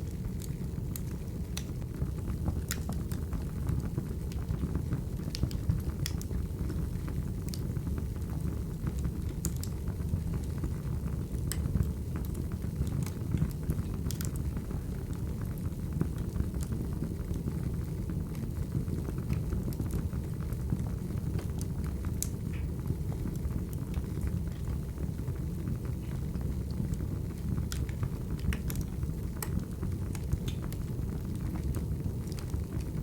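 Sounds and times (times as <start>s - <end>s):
burning logs rumble: 0.0s - 33.0s
fire popping: 0.0s - 33.0s.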